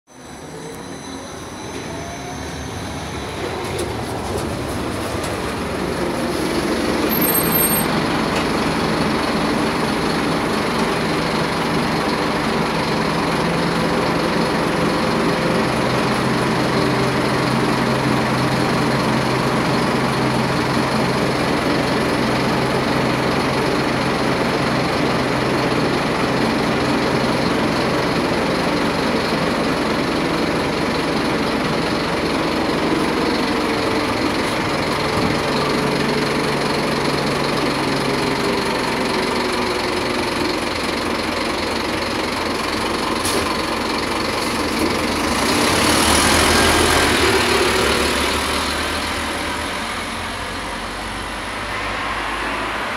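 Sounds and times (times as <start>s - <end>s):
bus diesel engine idling: 0.1s - 52.9s.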